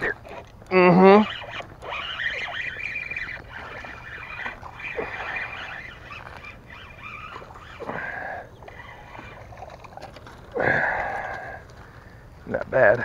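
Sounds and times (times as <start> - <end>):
birds calling in wavering calls: 0.0 - 12.4.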